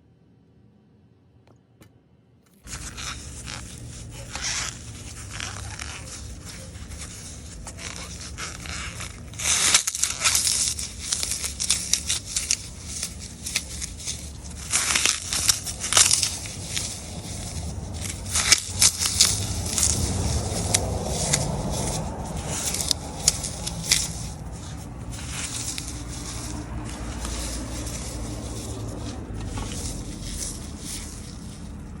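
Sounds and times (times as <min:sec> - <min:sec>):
floral foam crunching: 0:02.6 - 0:32.0
sharp cracks of foam: 0:02.6 - 0:32.0.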